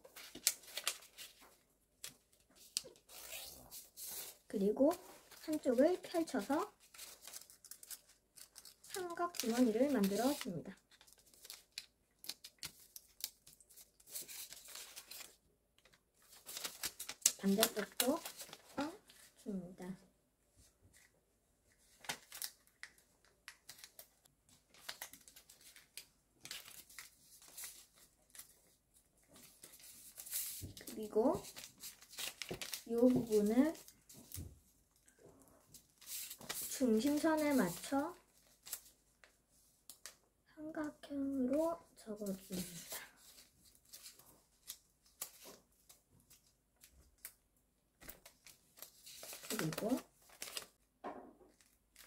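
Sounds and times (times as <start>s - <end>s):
paper rustling and crackling: 0.0s - 19.4s, 21.7s - 34.7s, 35.7s - 40.2s, 42.2s - 47.4s, 48.0s - 50.8s.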